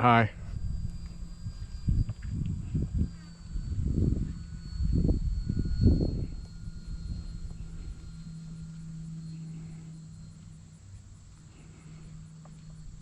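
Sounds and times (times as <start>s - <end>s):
model plane motor buzzing: 0.0s - 13.0s.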